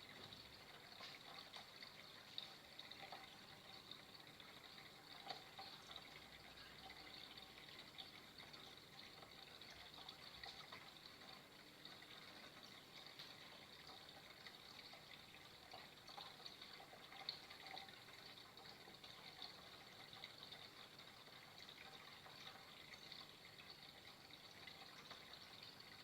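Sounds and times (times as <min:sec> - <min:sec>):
water trickling: 0:00.0 - 0:26.0.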